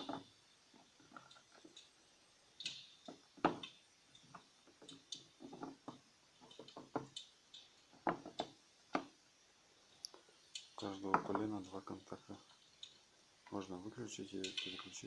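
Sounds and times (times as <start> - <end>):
plastic parts clicking and knocking: 0.0 - 1.9, 2.6 - 9.2, 10.1 - 15.0.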